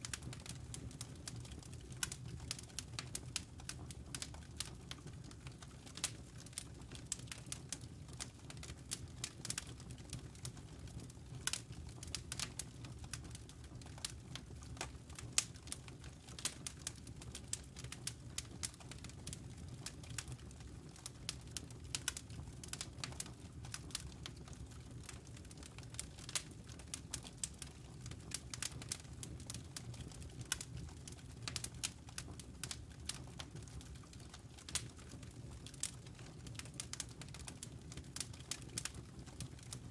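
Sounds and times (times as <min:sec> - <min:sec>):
burning wood crackling and popping: 0:00.0 - 0:39.9
campfire flame rumble: 0:00.0 - 0:39.9.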